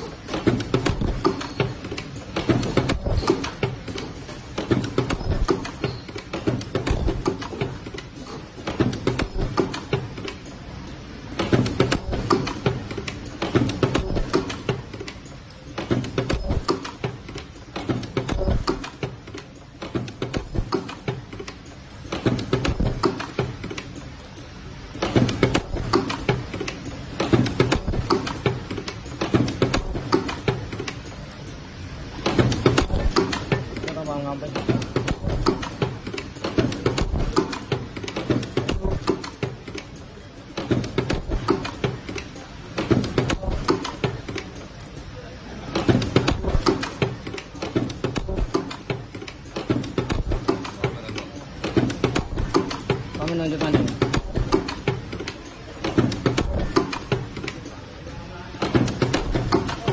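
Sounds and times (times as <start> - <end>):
machinery clattering: 0.0 - 59.9.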